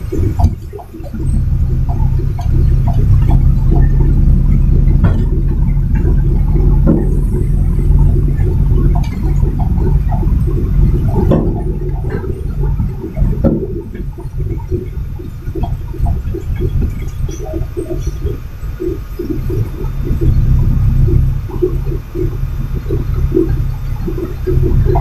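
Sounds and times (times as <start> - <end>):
diesel truck engine rumbling: 0.0 - 25.0.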